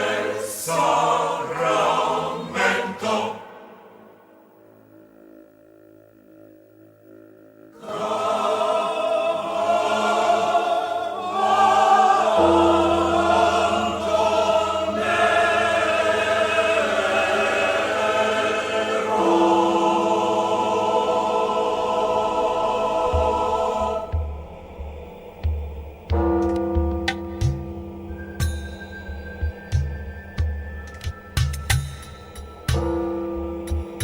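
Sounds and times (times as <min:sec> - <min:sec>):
choir holding long notes: 0:00.0 - 0:04.5, 0:07.7 - 0:31.1.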